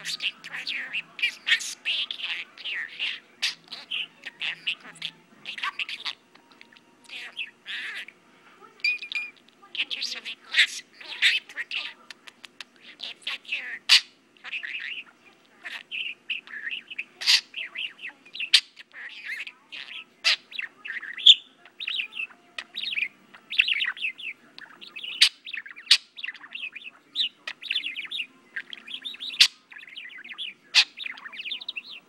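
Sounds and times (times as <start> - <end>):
budgerigar warbling: 0.0 - 8.1, 9.3 - 12.0, 12.8 - 32.0.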